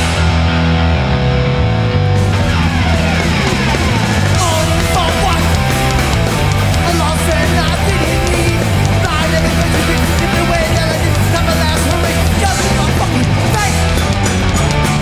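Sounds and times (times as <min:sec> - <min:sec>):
distorted electric guitars: 0:00.0 - 0:15.0
punk band playing live: 0:00.0 - 0:15.0
pounding drums: 0:02.2 - 0:15.0.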